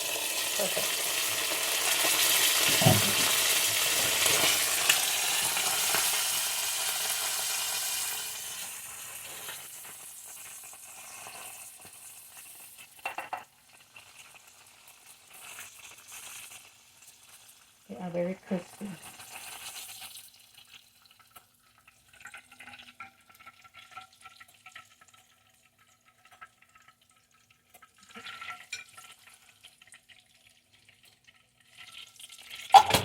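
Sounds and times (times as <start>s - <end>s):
food sizzling in hot oil: 0.0s - 33.0s.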